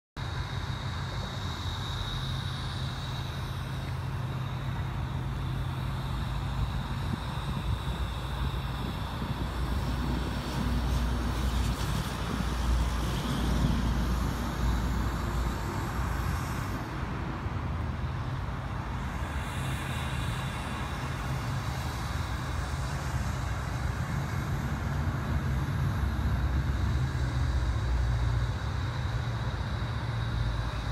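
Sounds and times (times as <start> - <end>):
road traffic rumble: 0.2 - 30.9.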